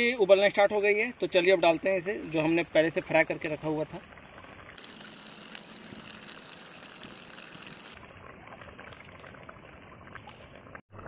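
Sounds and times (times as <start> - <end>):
gravy boiling and bubbling: 0.2 - 11.0.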